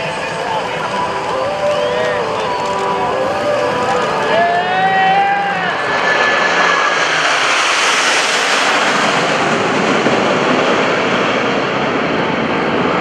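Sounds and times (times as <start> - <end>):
jet roar overhead: 0.0 - 13.0.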